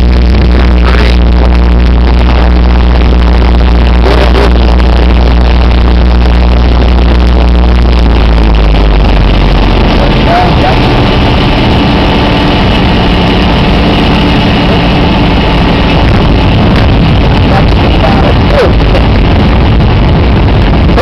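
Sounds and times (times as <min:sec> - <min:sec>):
aircraft engine drone: 0:00.0 - 0:21.0
airflow noise: 0:00.0 - 0:21.0.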